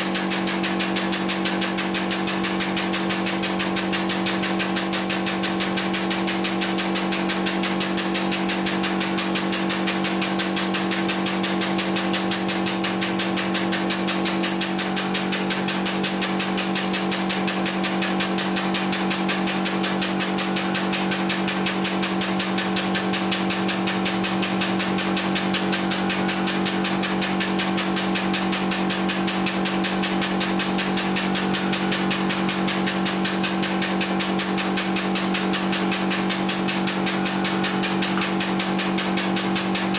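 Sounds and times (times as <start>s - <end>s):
hydraulic pump pulsing: 0.0s - 39.9s.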